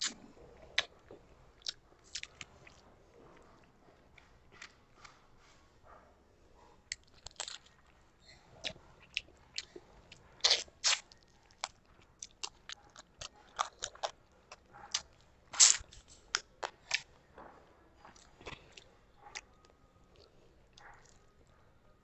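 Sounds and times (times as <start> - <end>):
wet chewing and crunching: 0.0 - 5.2, 6.8 - 21.6.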